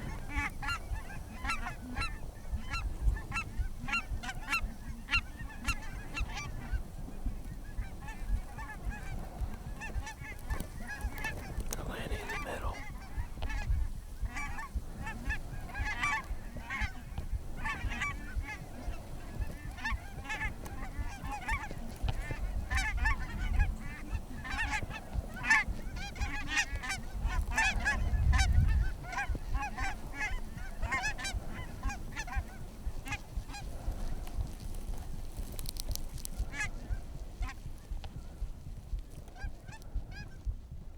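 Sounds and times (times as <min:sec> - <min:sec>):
geese honking: 0:00.0 - 0:38.4
wind rumble on microphone: 0:00.0 - 0:40.9.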